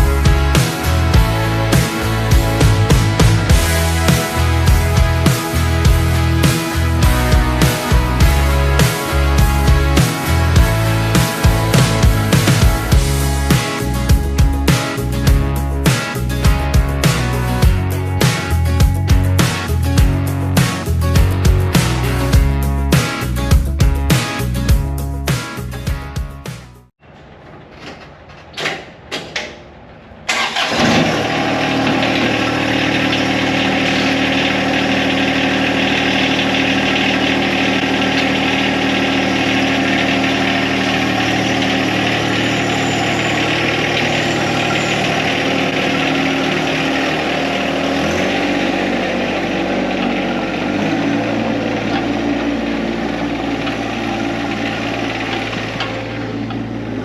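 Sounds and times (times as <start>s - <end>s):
diesel engine cranking and running: 0.0s - 23.5s, 29.2s - 57.0s.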